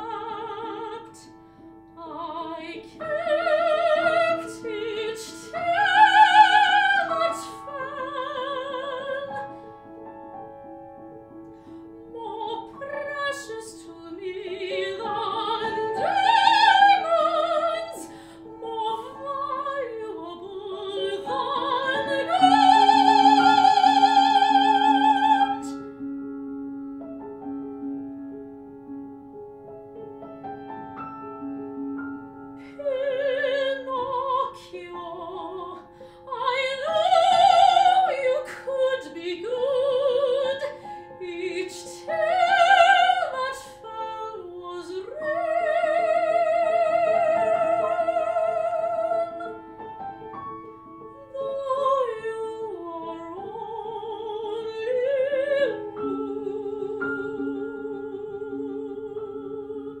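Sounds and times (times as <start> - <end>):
soprano singing opera with vibrato: 0.0 - 1.4, 2.0 - 9.7, 12.0 - 26.0, 32.6 - 49.8, 51.2 - 60.0
grand piano: 0.0 - 60.0.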